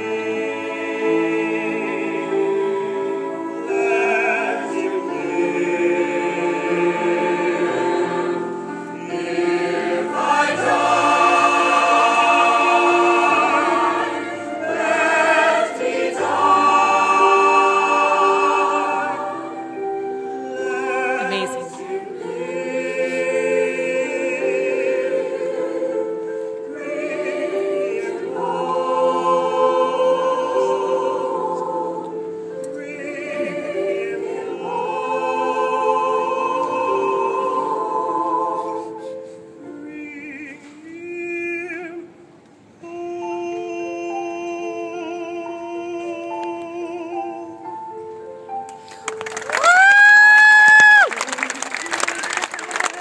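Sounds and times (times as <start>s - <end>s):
choir singing: 0.0s - 48.0s.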